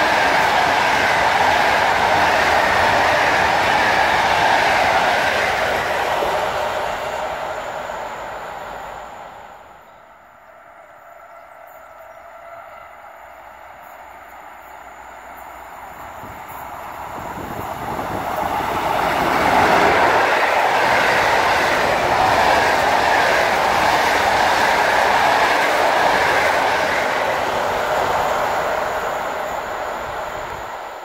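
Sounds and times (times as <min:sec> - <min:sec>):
passenger train passing at speed: 0:00.0 - 0:31.0.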